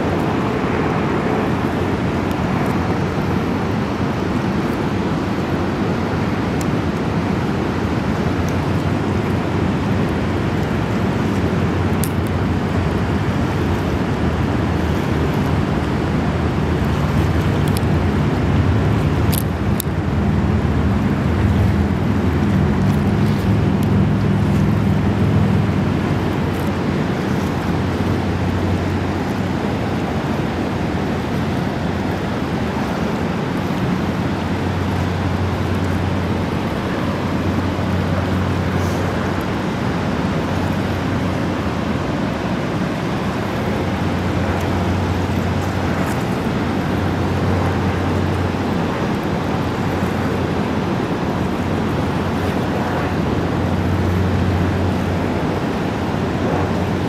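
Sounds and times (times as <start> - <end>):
low engine hum: 0.0 - 57.0
river rapids rushing: 0.0 - 57.0.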